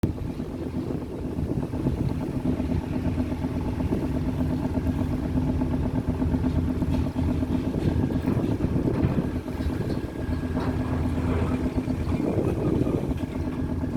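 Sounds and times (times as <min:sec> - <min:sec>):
boat engine droning: 0:00.0 - 0:13.9.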